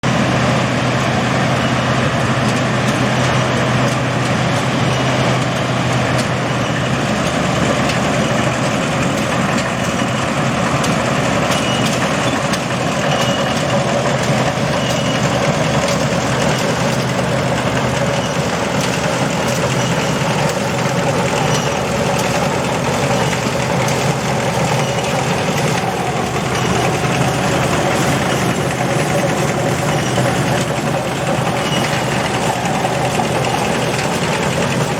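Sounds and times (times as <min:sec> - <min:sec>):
combine harvester droning: 0:00.0 - 0:34.9.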